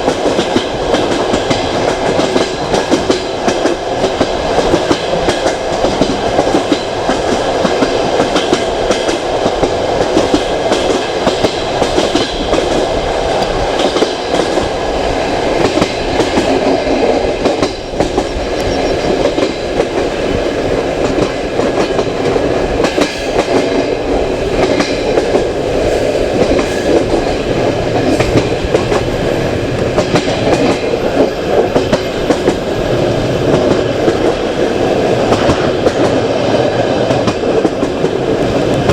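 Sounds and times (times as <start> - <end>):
train carriage rumbling on track: 0.0 - 38.9.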